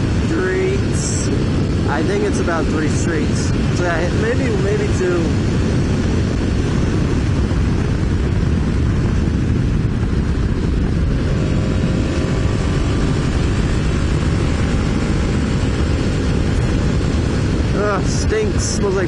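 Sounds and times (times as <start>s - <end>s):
motorcycle engine droning: 0.0s - 19.0s
wind rush on microphone: 0.0s - 19.0s.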